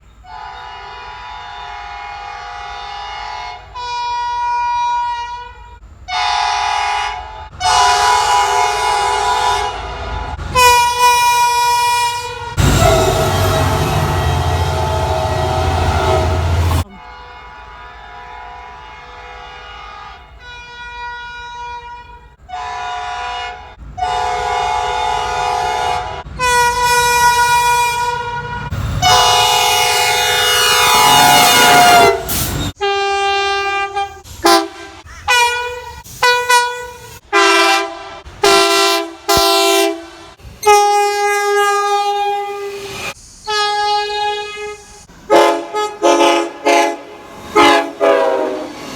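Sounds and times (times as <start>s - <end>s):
train passing: 0.0s - 48.9s
train air horn chords: 0.2s - 48.9s.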